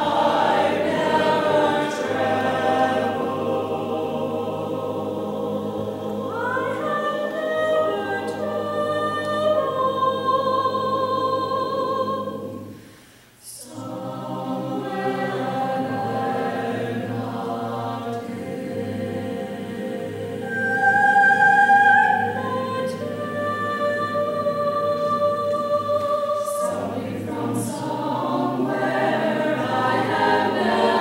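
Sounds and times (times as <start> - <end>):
choir singing unaccompanied: 0.0 - 12.8, 13.4 - 31.0.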